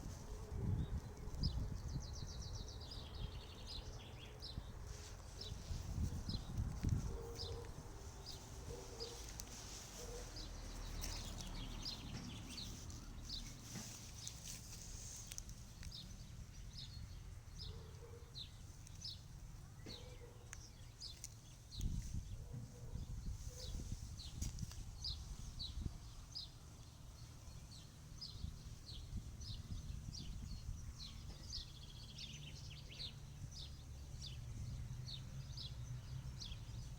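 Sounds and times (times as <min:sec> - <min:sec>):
songbird chirping: 0:00.0 - 0:36.9.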